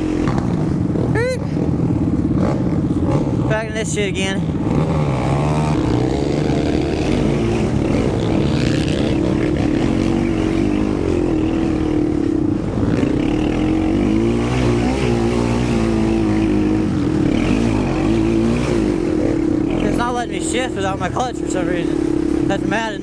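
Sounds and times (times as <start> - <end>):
quad engine revving: 0.0 - 23.0.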